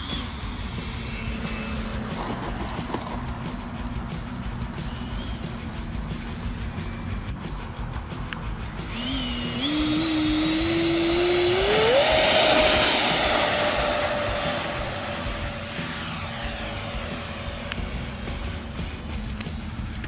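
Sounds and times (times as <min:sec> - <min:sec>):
electric ducted fan whine: 0:00.0 - 0:20.0.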